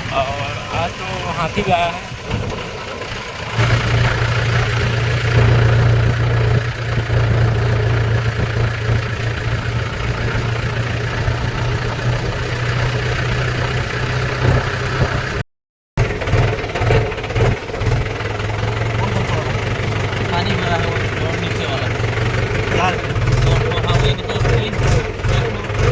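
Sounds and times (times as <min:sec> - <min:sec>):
tractor diesel engine humming: 0:00.0 - 0:15.4, 0:16.0 - 0:25.9.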